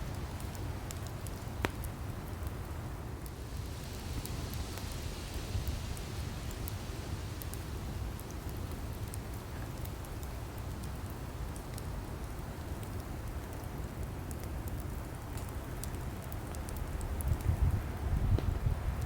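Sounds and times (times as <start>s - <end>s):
fire crackles and pops: 0.0s - 19.0s.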